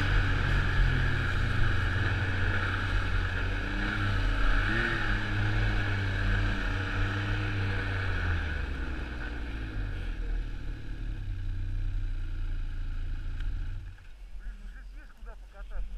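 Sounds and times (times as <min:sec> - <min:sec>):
snowmobile engine whine: 0:00.0 - 0:15.9.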